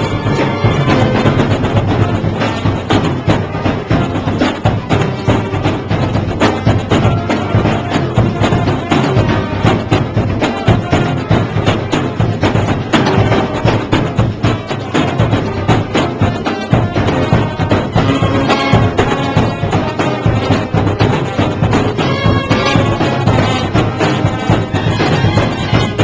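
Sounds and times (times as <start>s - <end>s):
brass melody: 0.0s - 26.0s
drums and percussion: 0.0s - 26.0s.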